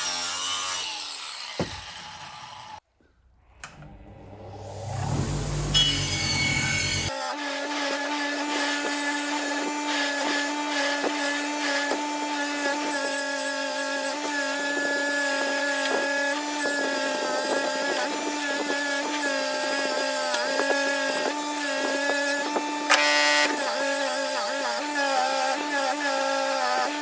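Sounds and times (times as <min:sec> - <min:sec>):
small power tool motor running: 0:00.0 - 0:02.8, 0:05.3 - 0:27.0.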